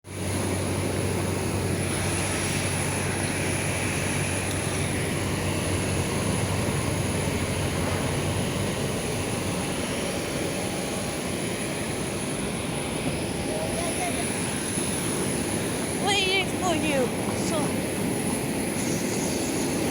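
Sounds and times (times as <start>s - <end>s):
jet engines running: 0.1s - 19.9s.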